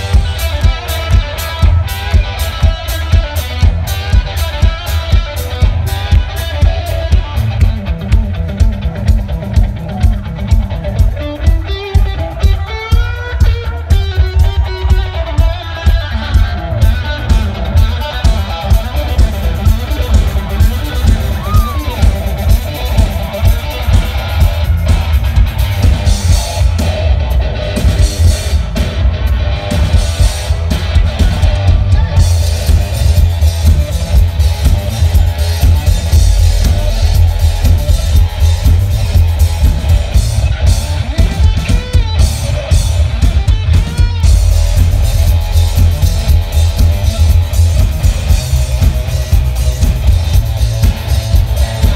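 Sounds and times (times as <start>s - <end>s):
drum kit beat: 0.0s - 51.9s
electric guitar played hard: 0.0s - 51.9s.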